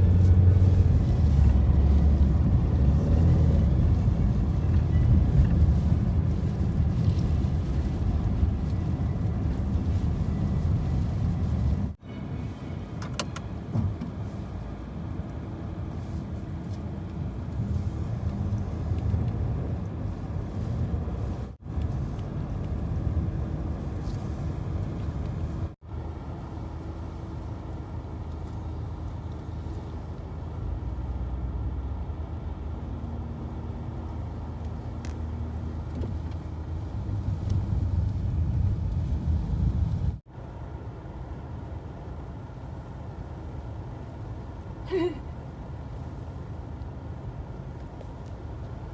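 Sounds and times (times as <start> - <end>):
car driving rumble: 0.0 - 48.9.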